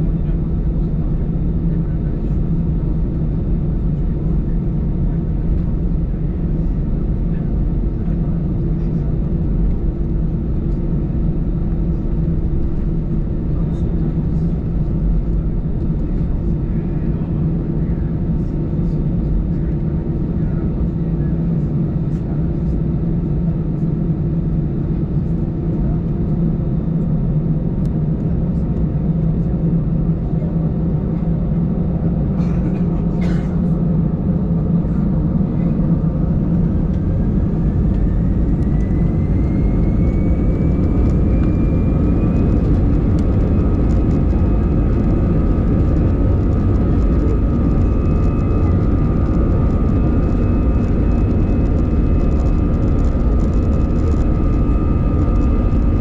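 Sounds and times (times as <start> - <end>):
jet engine rumble: 0.0 - 56.0
jet engine whine: 0.0 - 56.0.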